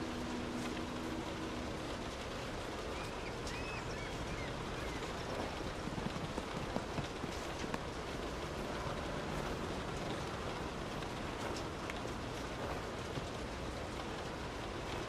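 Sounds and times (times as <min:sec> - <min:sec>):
low steady hum: 0:00.0 - 0:15.0
raindrop ticks: 0:00.0 - 0:15.0
steady rain falling: 0:00.0 - 0:15.0.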